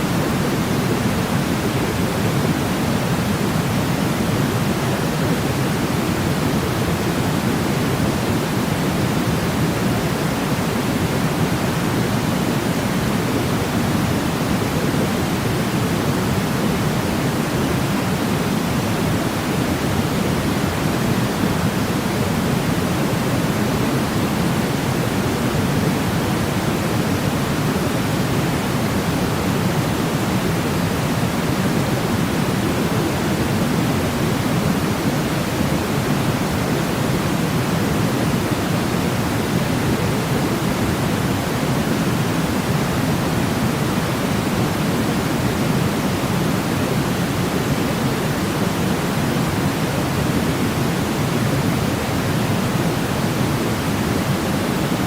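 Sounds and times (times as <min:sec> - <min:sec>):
steady pink noise: 0:00.0 - 0:55.0.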